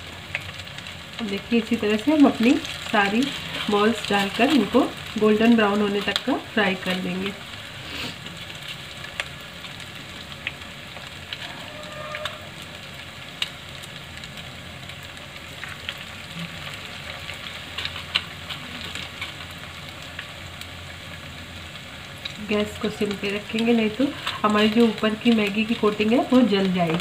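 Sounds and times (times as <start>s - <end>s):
food deep-frying in oil: 0.0s - 27.0s.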